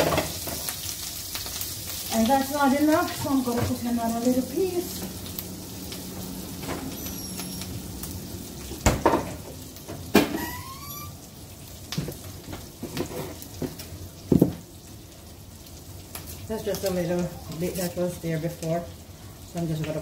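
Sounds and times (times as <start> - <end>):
butter sizzling in a frying pan: 0.0 - 20.0.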